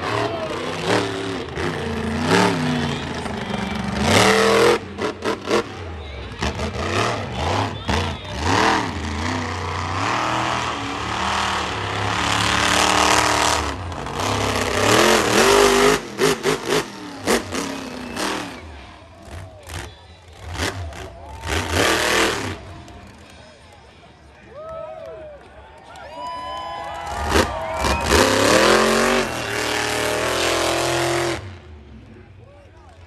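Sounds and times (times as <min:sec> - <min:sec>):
truck engine revving: 0:00.0 - 0:23.5, 0:27.0 - 0:32.0.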